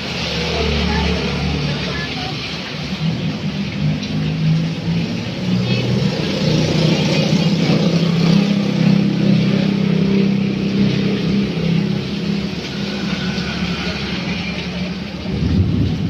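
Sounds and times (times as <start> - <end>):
motorbike engines passing: 0.0 - 16.0.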